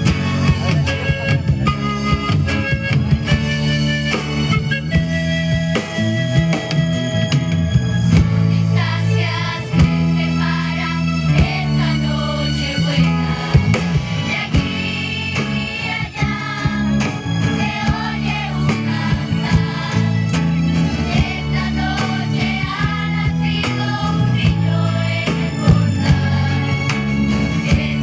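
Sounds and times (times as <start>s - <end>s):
live song with singing: 0.0s - 28.0s.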